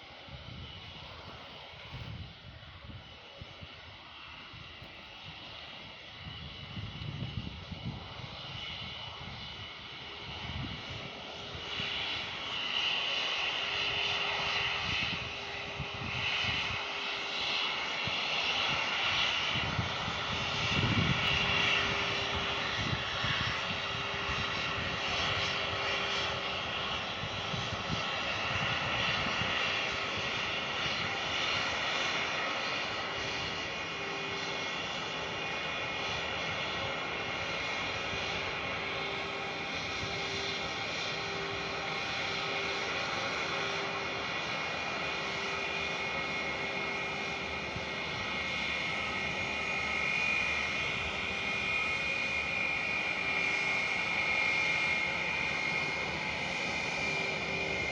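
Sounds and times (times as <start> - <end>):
airliner engines at takeoff: 0.0 - 57.9.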